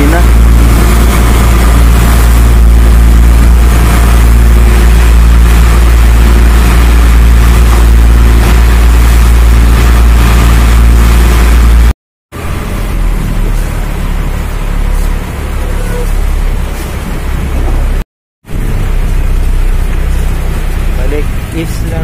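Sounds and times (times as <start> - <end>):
boat engine droning: 0.0 - 22.0
rush of wind and water: 0.0 - 22.0.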